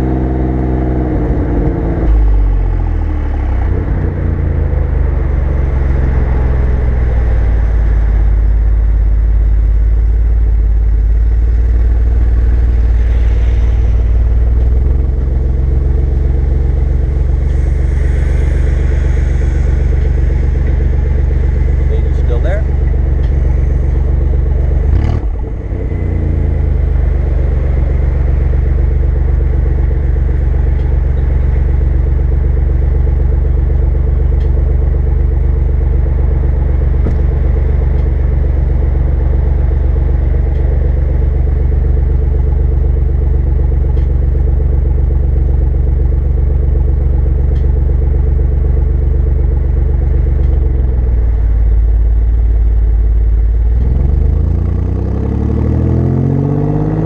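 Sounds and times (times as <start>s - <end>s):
car engine idling: 0.0s - 57.0s
car pulling away: 0.0s - 57.0s.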